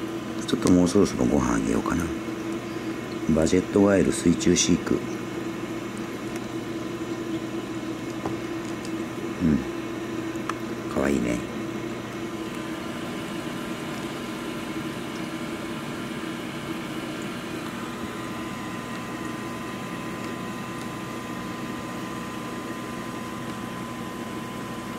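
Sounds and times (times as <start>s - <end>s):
aquarium filter pump humming: 0.0s - 24.9s.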